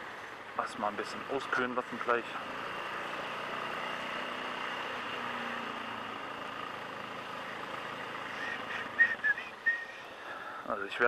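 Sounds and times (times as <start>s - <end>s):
motorcycle engine running: 0.0s - 10.6s
road and wind noise: 0.0s - 11.0s.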